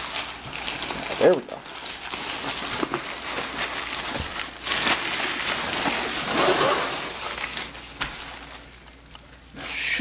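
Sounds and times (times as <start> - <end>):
paper rustling and crinkling: 0.0 - 9.6.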